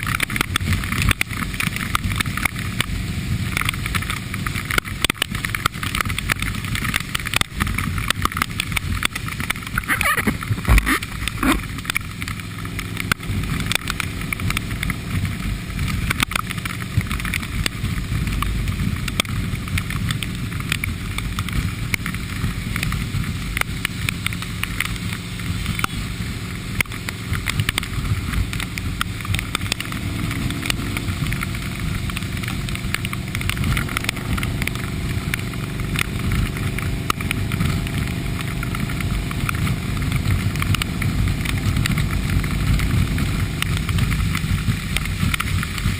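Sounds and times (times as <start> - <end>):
motorcycle engine running: 0.0 - 45.9
raindrops hitting camera: 0.0 - 45.9
wind and wet road hiss: 0.0 - 45.9.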